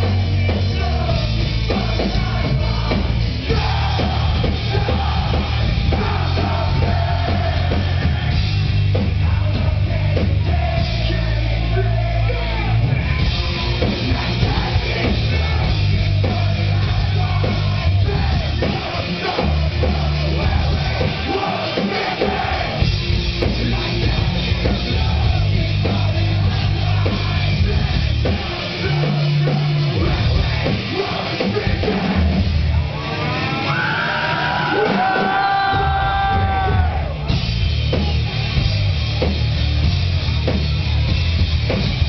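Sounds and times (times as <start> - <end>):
distorted guitars: 0.0 - 42.0
driving drums: 0.0 - 42.0
heavy bass: 0.0 - 42.0.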